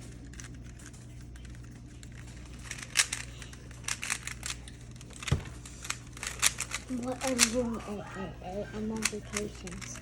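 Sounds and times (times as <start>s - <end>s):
puzzle cube plastic clicks: 0.2s - 7.6s, 9.0s - 10.0s.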